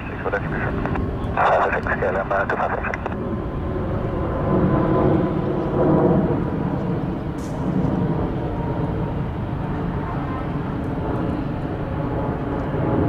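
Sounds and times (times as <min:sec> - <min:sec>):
faint jet engine whine: 0:00.0 - 0:13.0
jet engines rumbling: 0:00.0 - 0:13.0.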